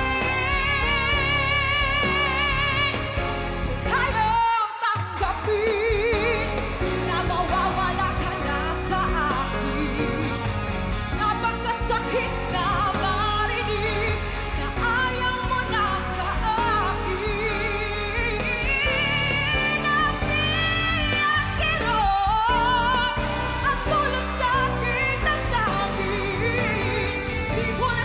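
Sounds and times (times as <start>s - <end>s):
live band playing: 0.0s - 28.0s
woman singing pop ballad: 0.0s - 28.0s.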